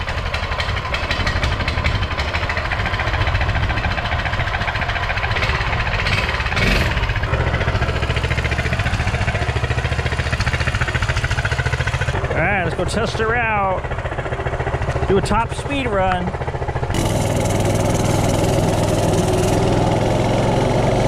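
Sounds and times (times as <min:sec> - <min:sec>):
minibike engine idling: 0:00.0 - 0:21.0.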